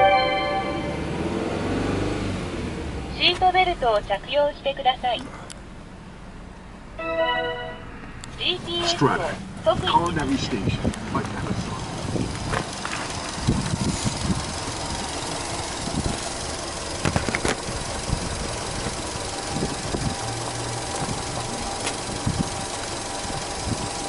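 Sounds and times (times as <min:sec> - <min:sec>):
car engine idling: 0:02.4 - 0:07.0, 0:07.8 - 0:24.0.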